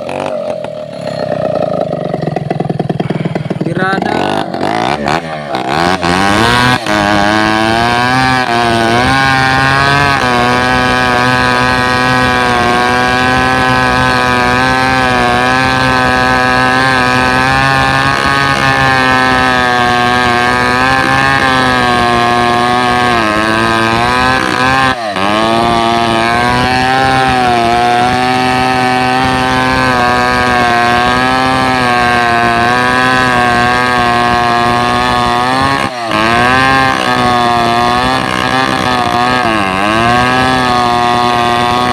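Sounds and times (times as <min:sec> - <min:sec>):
chainsaw engine at high revs: 0:00.0 - 0:41.9.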